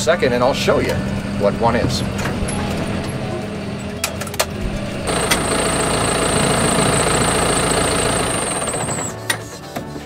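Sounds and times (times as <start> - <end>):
steady high whine: 0.0 - 9.2
tractor diesel engine running: 0.0 - 9.7.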